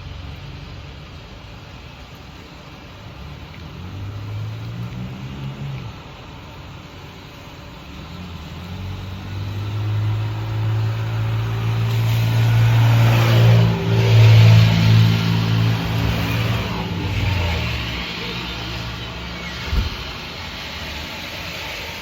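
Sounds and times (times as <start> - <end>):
car passing: 3.0 - 22.0.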